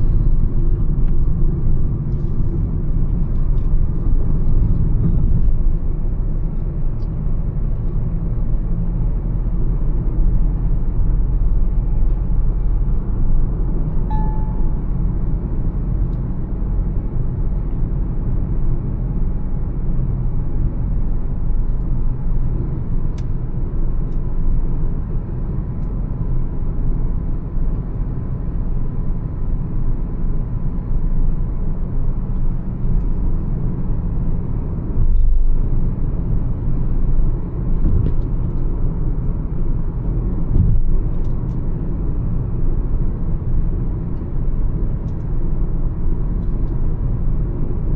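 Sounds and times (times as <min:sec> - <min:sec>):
car engine and road noise: 0:00.0 - 0:47.9.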